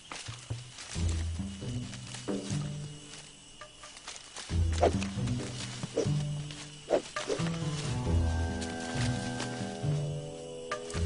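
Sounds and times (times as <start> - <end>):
background music with low chords: 0.0 - 11.0.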